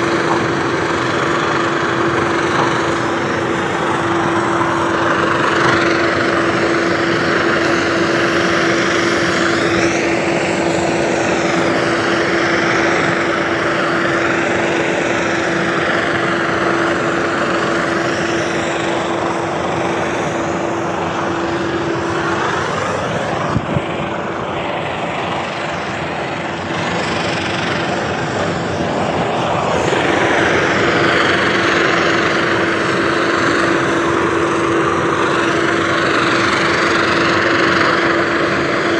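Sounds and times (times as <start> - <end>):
pressure washer engine hum: 0.0 - 38.9.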